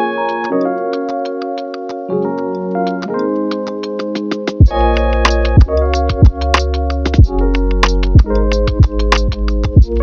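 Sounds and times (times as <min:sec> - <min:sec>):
electronic music with drum machine: 0:00.0 - 0:10.0.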